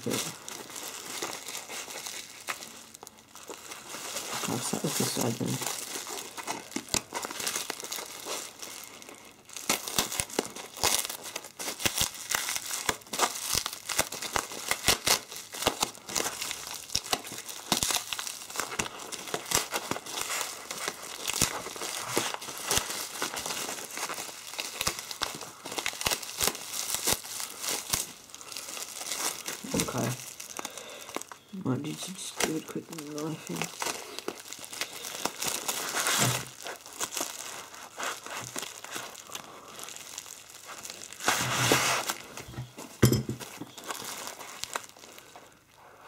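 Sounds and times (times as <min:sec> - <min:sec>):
bubble wrap and paper crinkling: 0:00.0 - 0:46.0.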